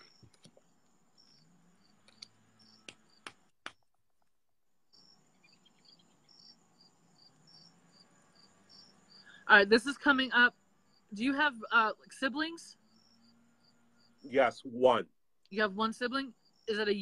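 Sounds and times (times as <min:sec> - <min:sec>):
faint crickets chirping: 0:00.0 - 0:03.4, 0:04.8 - 0:17.0.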